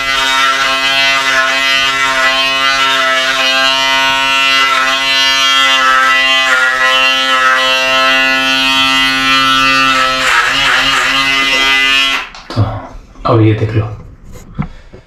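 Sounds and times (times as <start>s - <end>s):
electric beard trimmer buzzing: 0.0s - 12.5s.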